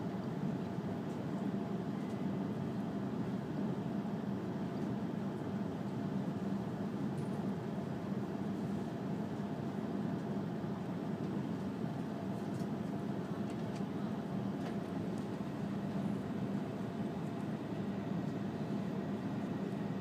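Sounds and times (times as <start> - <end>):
train running rumble inside cabin: 0.0 - 20.0.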